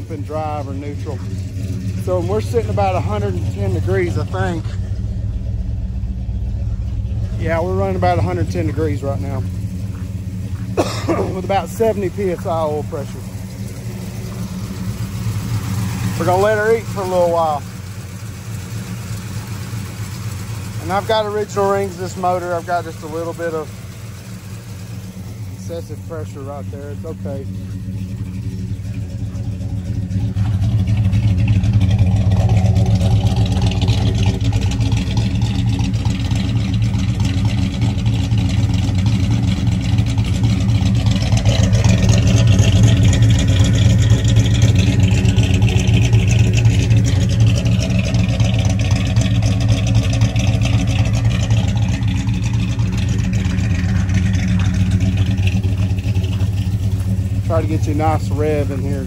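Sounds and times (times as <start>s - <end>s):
engine running at fast idle: 0.0s - 59.0s.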